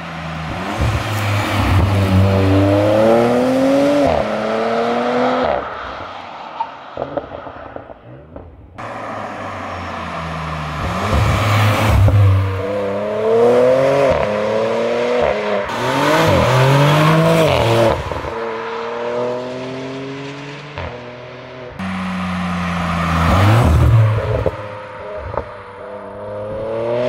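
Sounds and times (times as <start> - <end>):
car engine accelerating through gears: 0.0 - 5.7, 7.1 - 18.3, 18.9 - 27.0.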